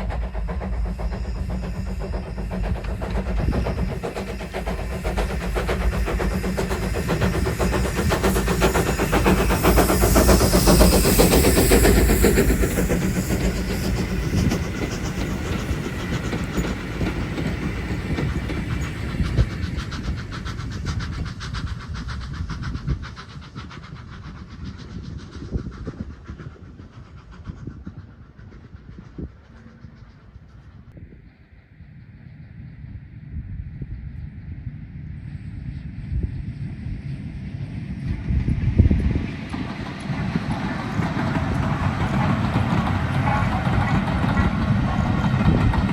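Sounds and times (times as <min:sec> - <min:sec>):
steam train passing: 0:00.0 - 0:45.9.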